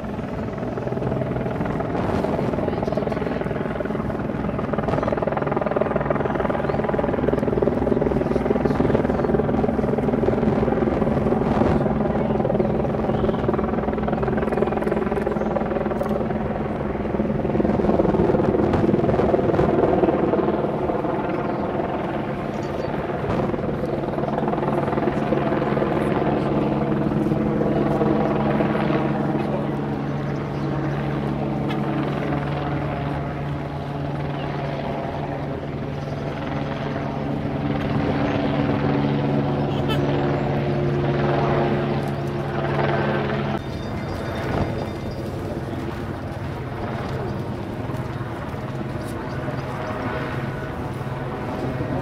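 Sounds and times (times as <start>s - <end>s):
engine drone with low throbbing: 0.0s - 34.5s, 35.1s - 52.0s.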